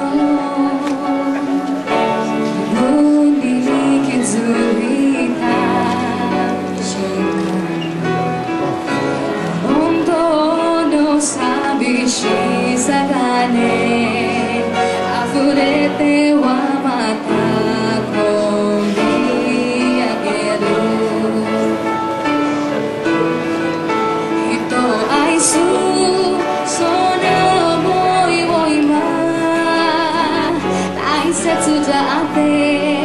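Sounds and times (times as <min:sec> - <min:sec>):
woman singing a slow ballad: 0:00.0 - 0:08.3, 0:09.5 - 0:22.7, 0:24.4 - 0:33.0
guitar: 0:00.0 - 0:33.0
piano: 0:00.0 - 0:33.0.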